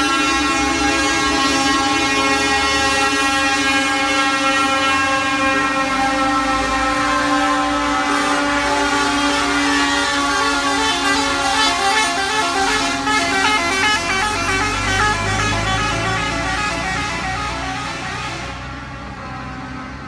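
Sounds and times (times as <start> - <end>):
truck horns blasting: 0.0 - 19.8.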